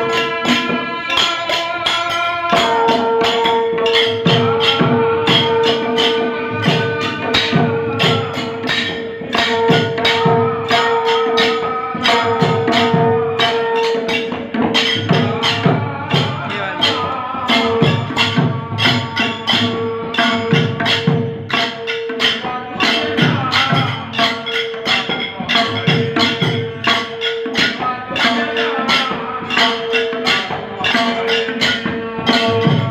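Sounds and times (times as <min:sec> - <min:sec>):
drum beat: 0:00.0 - 0:32.9.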